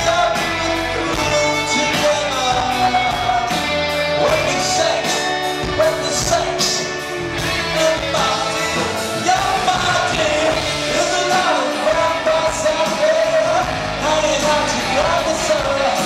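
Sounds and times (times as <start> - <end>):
live rock band playing: 0.0 - 16.0
man singing: 0.0 - 16.0.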